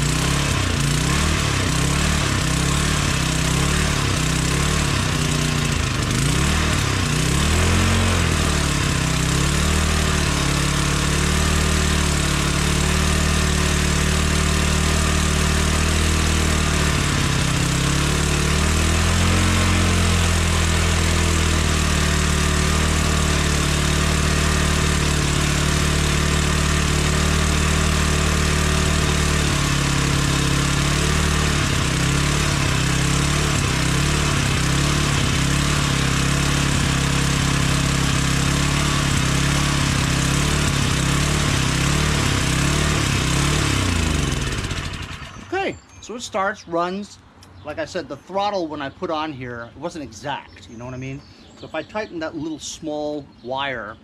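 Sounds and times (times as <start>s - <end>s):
small engine surging: 0.0s - 46.4s.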